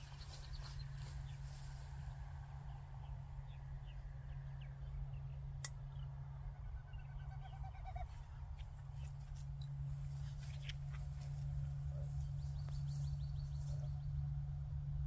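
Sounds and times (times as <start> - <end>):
small birds chirping: 0.0 - 14.3
steady low hum: 0.0 - 15.0.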